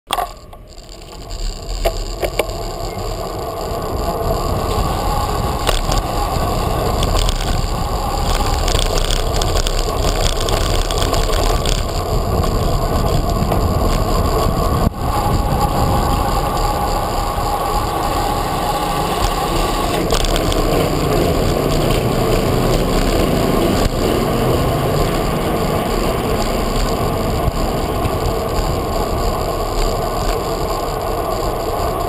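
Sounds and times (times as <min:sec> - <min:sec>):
bicycle tyres on asphalt: 0:00.1 - 0:32.0
sharp rattles: 0:00.1 - 0:32.0
wind rumble on microphone: 0:00.1 - 0:32.0.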